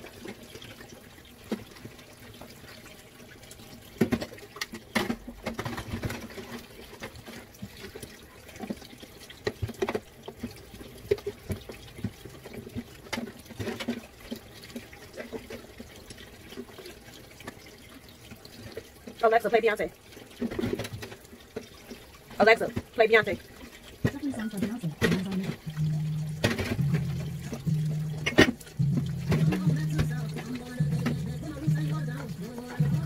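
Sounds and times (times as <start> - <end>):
water splashing and running: 0.0 - 33.0.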